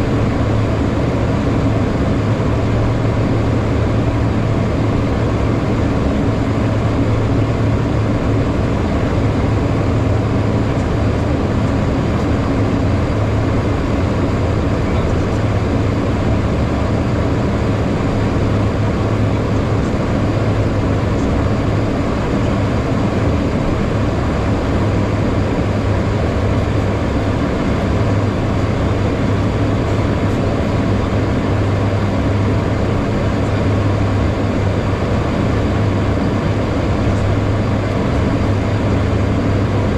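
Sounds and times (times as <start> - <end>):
air rushing over aircraft: 0.0 - 39.9
jet engines humming: 0.0 - 39.9.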